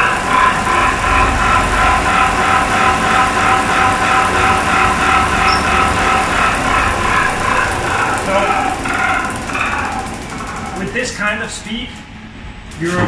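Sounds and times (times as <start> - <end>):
label machine pulsing whine: 0.0 - 13.0.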